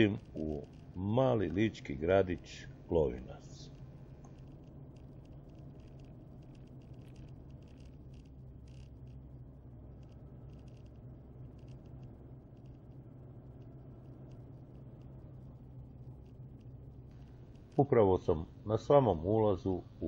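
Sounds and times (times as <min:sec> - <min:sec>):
light ticks and rattles: 0:00.0 - 0:18.6
car driving interior drone: 0:00.0 - 0:20.0.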